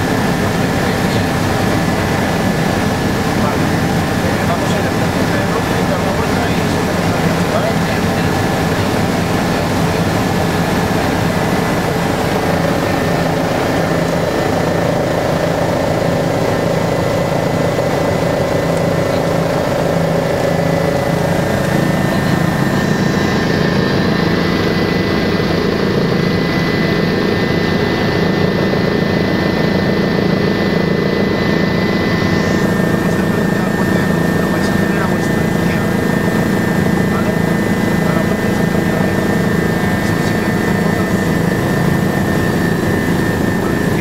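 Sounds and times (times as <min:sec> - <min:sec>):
helicopter engine and rotor drone: 0:00.0 - 0:44.0
thin steady whine: 0:00.0 - 0:44.0.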